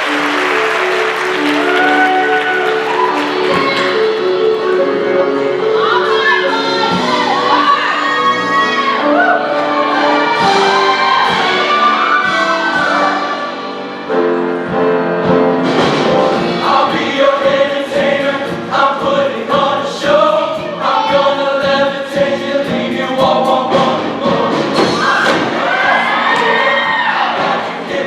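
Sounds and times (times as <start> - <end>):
choir singing held notes: 0.0 - 14.2, 16.3 - 28.0.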